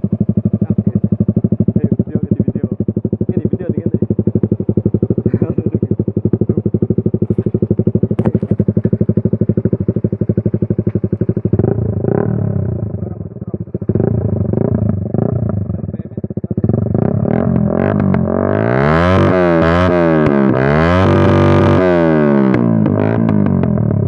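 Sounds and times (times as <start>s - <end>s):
motorcycle idling and revving: 0.0s - 24.0s.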